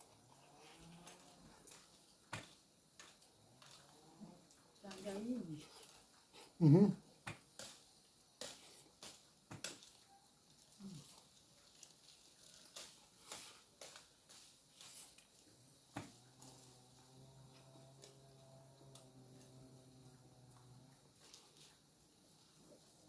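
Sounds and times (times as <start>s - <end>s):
faint eating clicks and taps: 0.8s - 6.3s, 7.1s - 21.8s.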